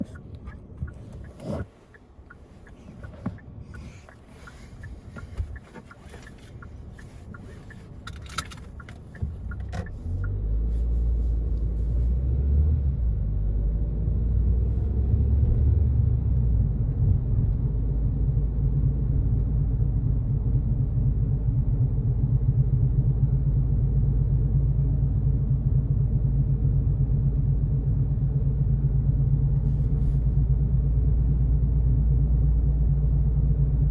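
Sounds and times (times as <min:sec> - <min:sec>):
car humming drone: 0:00.0 - 0:33.9.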